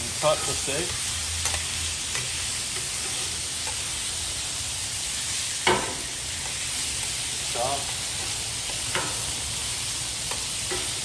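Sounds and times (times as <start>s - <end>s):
steak sizzling on griddle: 0.0s - 11.0s.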